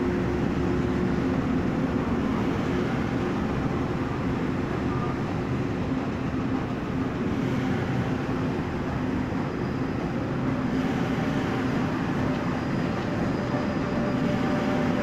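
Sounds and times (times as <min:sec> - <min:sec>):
low machinery hum: 0:00.0 - 0:15.0
train wheels on rails: 0:00.0 - 0:15.0.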